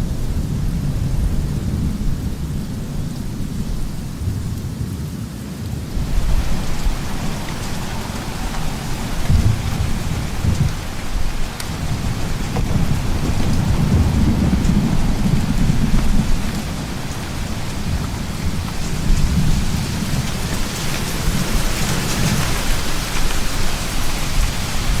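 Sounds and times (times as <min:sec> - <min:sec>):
heavy rain: 0:00.0 - 0:25.0
low rolling thunder: 0:00.0 - 0:25.0.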